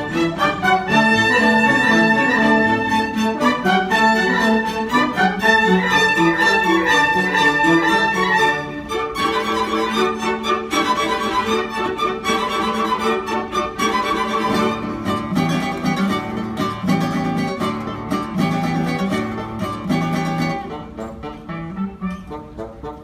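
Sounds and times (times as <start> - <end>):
bowed violins: 0.0 - 23.0
classical guitar plucking: 0.0 - 23.0.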